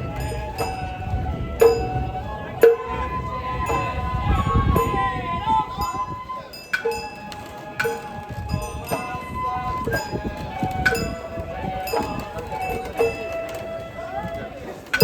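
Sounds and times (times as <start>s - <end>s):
bamboo flute: 0.0s - 15.0s.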